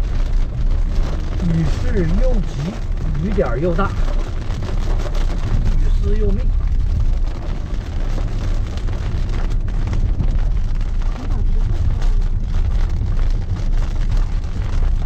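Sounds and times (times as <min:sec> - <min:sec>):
heavy rain on car windscreen: 0:00.0 - 0:15.0
low road rumble: 0:00.0 - 0:15.0.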